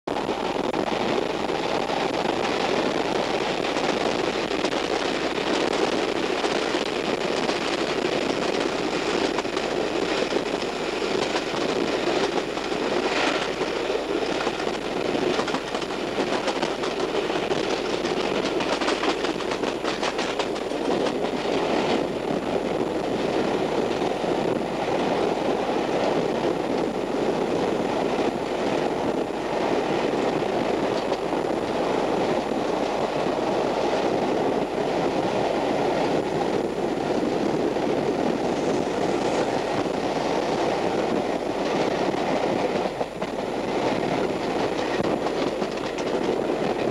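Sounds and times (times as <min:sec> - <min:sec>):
train wheels rumbling on track: 0:00.0 - 0:46.9
rail joint clicks: 0:00.2 - 0:46.9.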